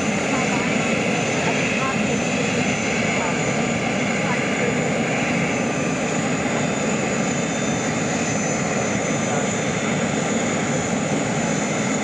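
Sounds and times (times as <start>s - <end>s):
turbine whine and roar: 0.0s - 12.0s.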